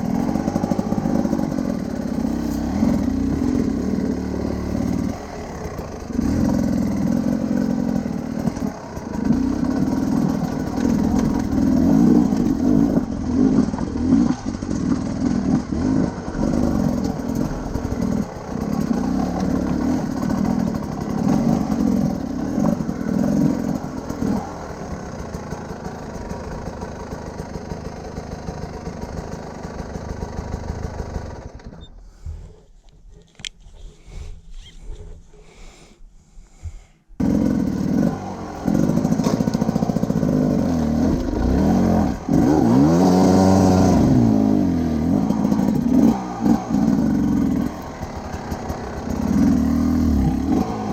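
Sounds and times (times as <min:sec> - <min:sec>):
motorcycle engine under load: 0:00.0 - 0:35.3, 0:36.4 - 0:50.9.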